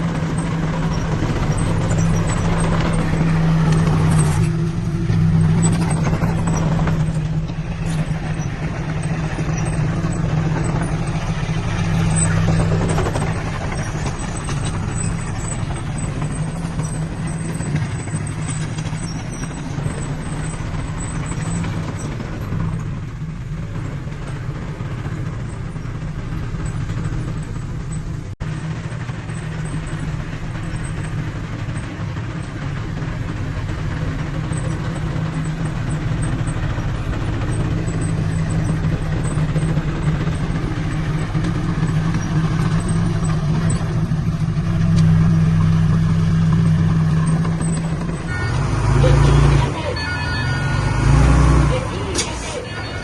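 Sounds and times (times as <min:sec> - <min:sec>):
heavy machinery diesel engine droning: 0:00.0 - 0:53.0.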